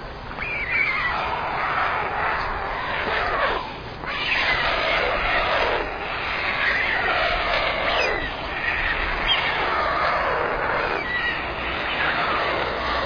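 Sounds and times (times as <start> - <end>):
storks giving hoarse calls: 0.2 - 13.0.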